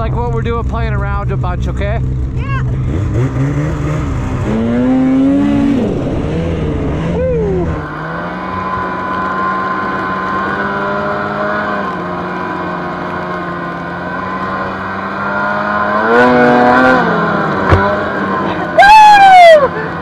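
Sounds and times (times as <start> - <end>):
snowmobile engine: 0.0 - 20.0.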